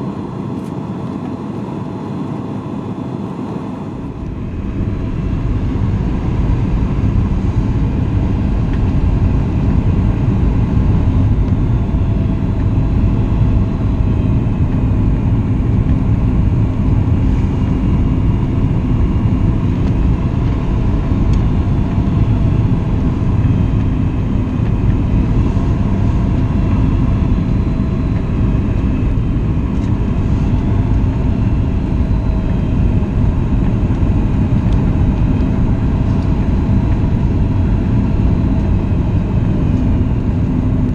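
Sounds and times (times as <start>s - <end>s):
airplane cabin rumble: 0.0s - 40.9s
faint wavering engine tones: 0.0s - 40.9s.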